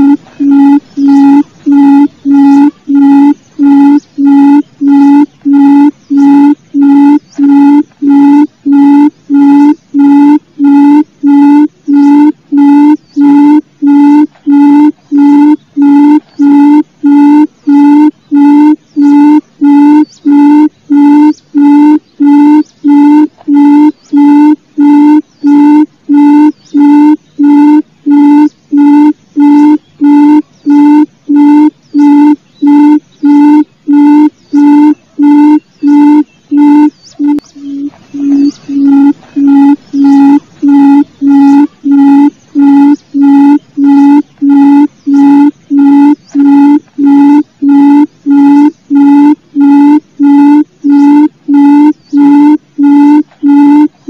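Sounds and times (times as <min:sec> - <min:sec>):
quail low trilled hoot: 0:00.0 - 0:54.0.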